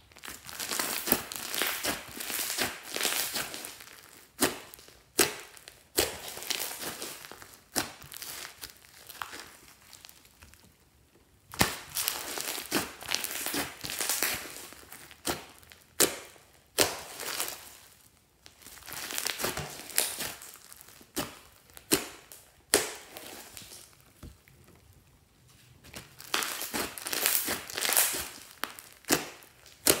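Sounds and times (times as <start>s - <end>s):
slime squelching and crunching: 0.0s - 30.0s.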